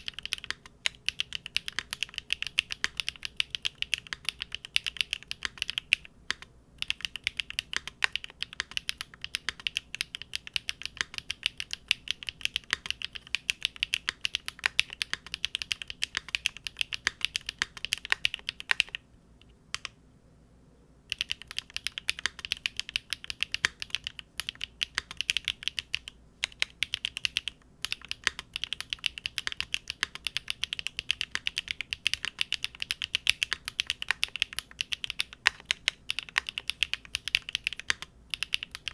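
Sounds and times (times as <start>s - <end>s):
mechanical keyboard typing: 0.0s - 19.0s, 21.1s - 38.9s.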